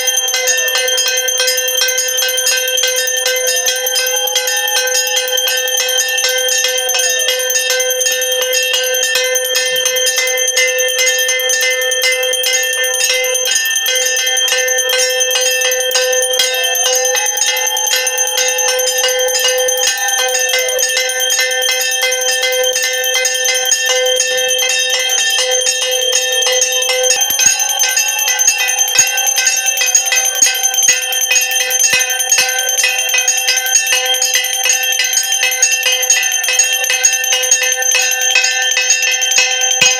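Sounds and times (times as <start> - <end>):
bell ringing rapidly: 0.0 - 39.9
low held tone: 0.0 - 39.9.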